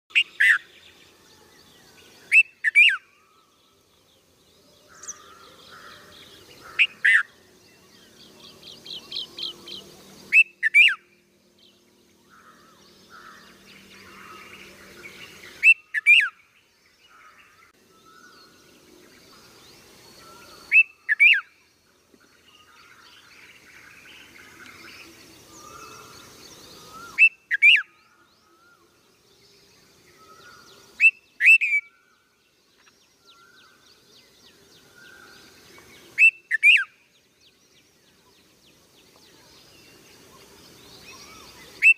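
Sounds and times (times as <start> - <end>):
songbird sharp chirps: 0.1 - 18.5, 19.2 - 41.9.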